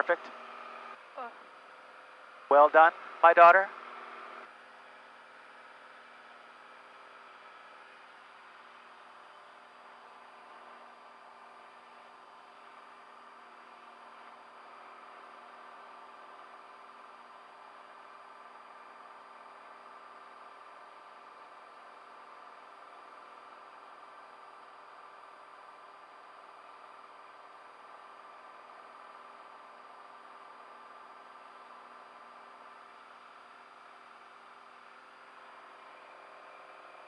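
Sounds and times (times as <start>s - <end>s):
faint propeller plane drone: 0.0s - 37.0s.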